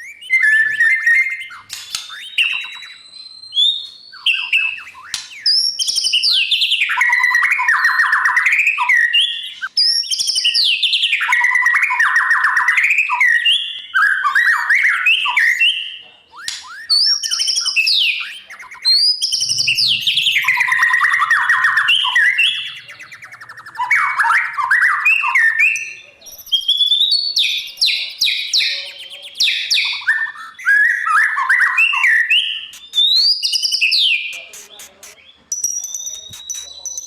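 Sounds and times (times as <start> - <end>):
bird singing whistled song: 0.0 - 37.0.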